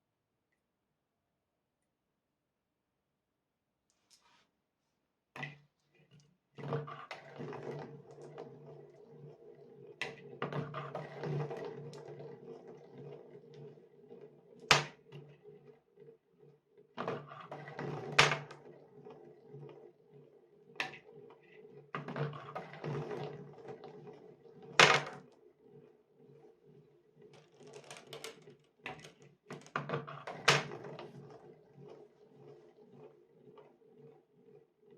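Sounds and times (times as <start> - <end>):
marbles rolling on a track: 6.6 - 34.7.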